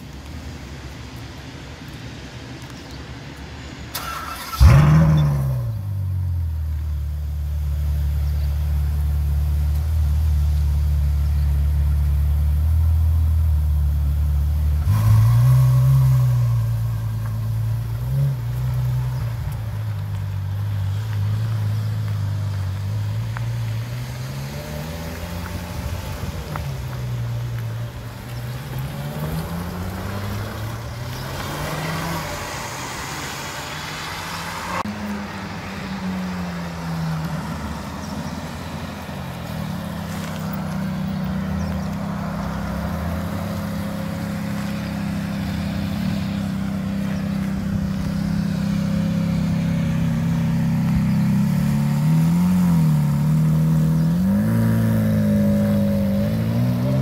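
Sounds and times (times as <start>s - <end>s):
sports car engines passing: 4.0s - 57.0s.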